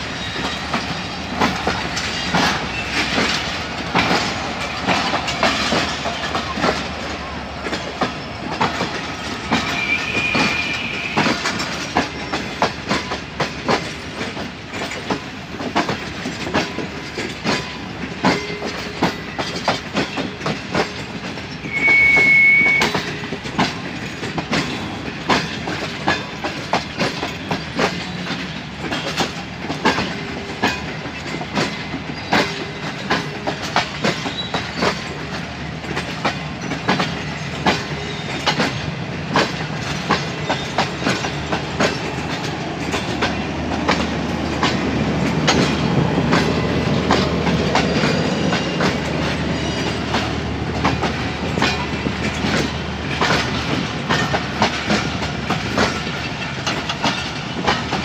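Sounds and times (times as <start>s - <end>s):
train running gear rumble: 0.0s - 58.0s
train wheels clicking over rail joints: 0.0s - 58.0s.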